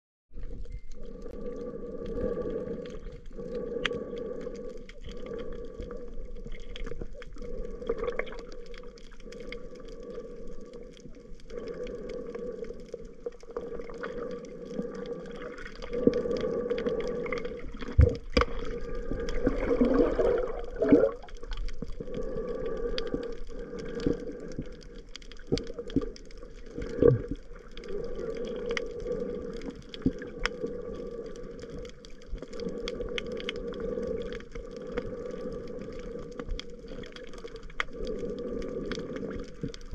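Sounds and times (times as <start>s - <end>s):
low underwater hum: 0.3s - 39.9s
water movement: 0.3s - 39.9s.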